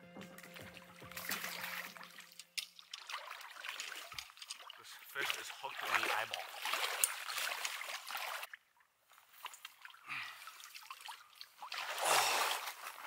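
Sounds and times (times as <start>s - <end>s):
river water sloshing: 0.3s - 13.0s.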